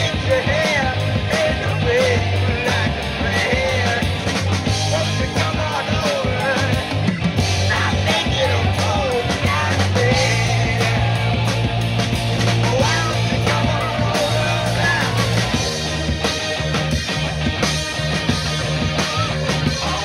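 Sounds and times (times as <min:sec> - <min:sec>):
man singing lead vocal: 0:00.0 - 0:11.7, 0:12.4 - 0:15.8, 0:18.7 - 0:20.0
bass guitar: 0:00.0 - 0:20.0
drum kit: 0:00.0 - 0:20.0
electric guitar: 0:00.0 - 0:20.0
keyboard: 0:00.0 - 0:20.0.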